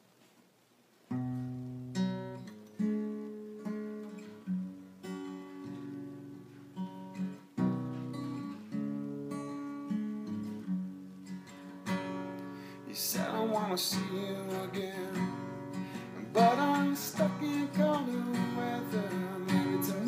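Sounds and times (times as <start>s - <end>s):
acoustic guitar chords: 1.1s - 20.0s.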